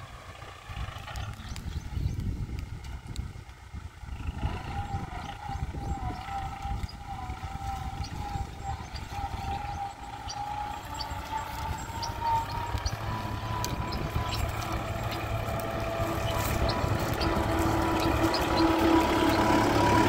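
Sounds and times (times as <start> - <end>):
steady whine rising in pitch: 0.0 - 20.0
tractor diesel engine running: 0.0 - 20.0.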